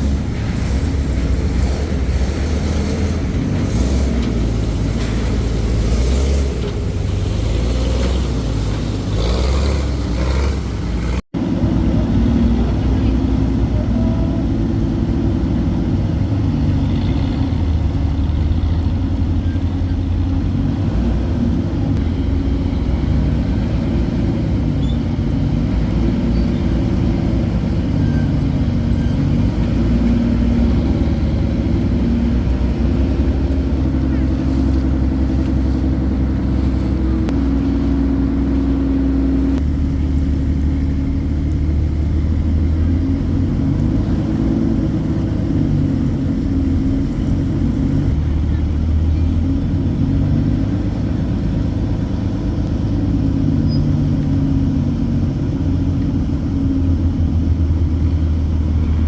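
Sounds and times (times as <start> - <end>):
motor engine running: 0.0 - 59.0.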